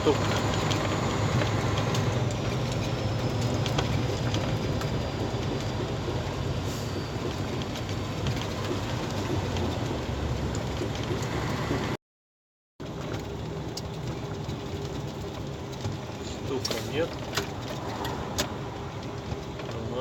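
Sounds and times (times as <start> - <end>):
engine and road drone: 0.0 - 12.0, 12.8 - 20.0.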